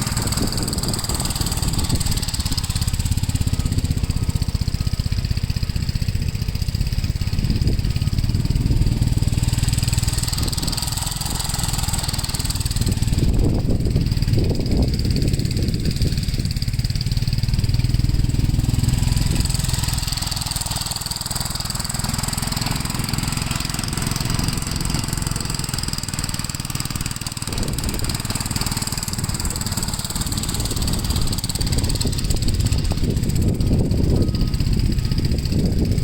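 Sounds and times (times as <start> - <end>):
walk-behind tractor engine running: 0.0 - 36.0.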